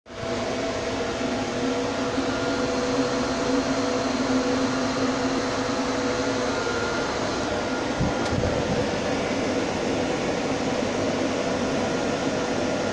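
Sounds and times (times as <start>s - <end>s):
lathe machine hum with whining: 0.1s - 12.9s.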